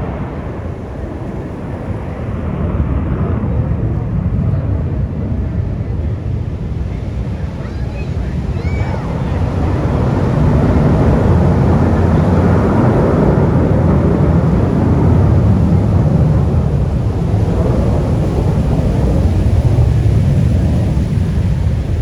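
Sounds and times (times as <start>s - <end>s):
aircraft rumble overhead: 0.0s - 22.0s.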